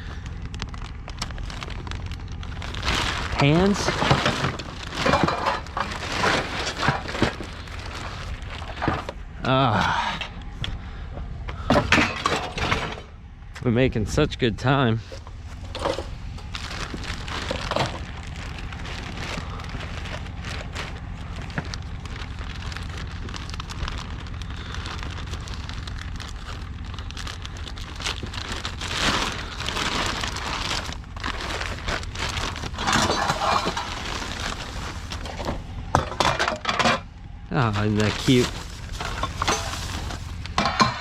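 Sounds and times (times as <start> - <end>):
rustling junk being rummaged: 0.0 - 10.8, 11.4 - 13.2, 15.0 - 41.0
steady low hum: 0.0 - 41.0.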